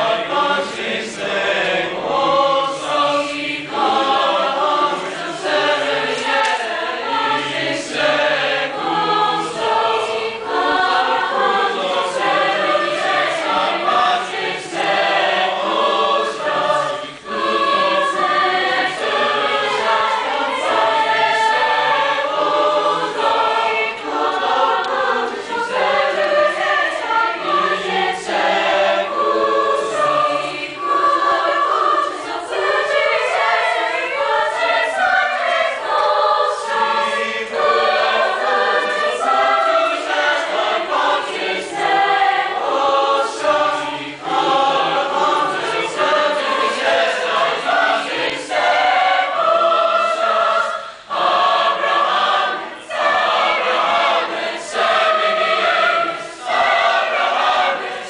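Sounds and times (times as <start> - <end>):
youth choir singing: 0.0 - 58.0.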